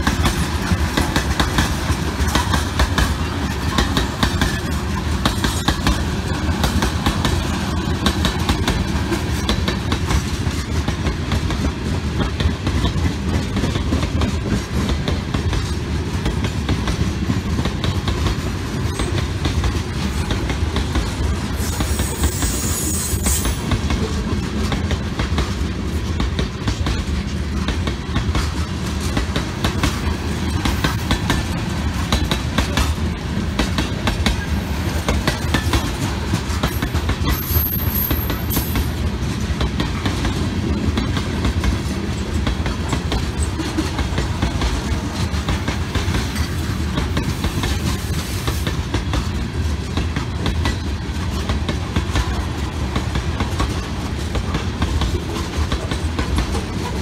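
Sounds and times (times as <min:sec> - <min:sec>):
freight train rumbling past: 0:00.0 - 0:57.0
wheels clicking over rail joints: 0:00.0 - 0:57.0.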